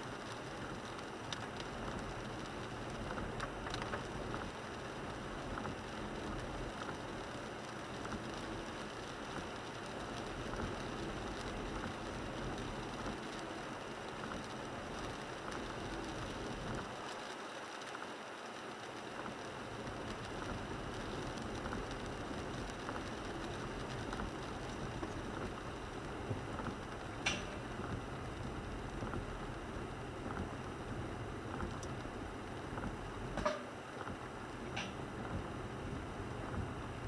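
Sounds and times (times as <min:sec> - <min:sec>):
rain on vehicle: 0:00.0 - 0:37.0.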